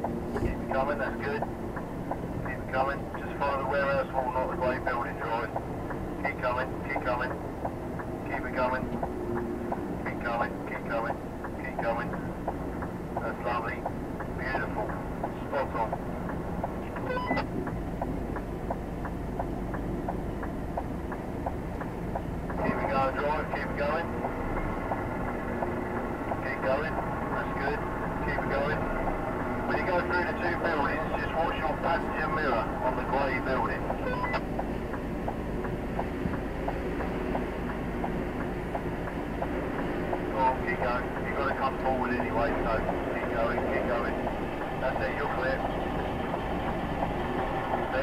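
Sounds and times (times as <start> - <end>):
even ticking: 0.0 - 3.8, 4.4 - 48.0
diesel truck engine at low revs: 0.0 - 48.0.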